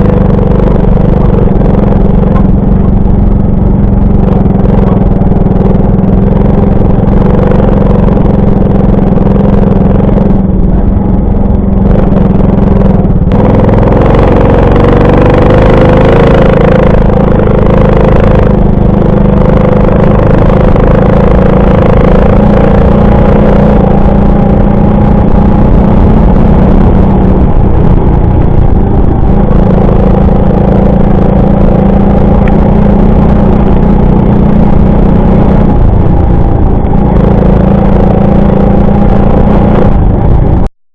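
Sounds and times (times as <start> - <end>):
moped engine droning: 0.0 - 40.7.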